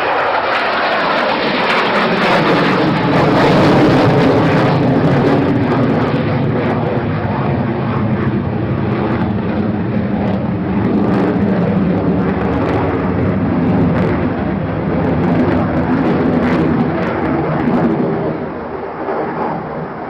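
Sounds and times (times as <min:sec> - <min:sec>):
aircraft engine noise: 0:00.0 - 0:20.0.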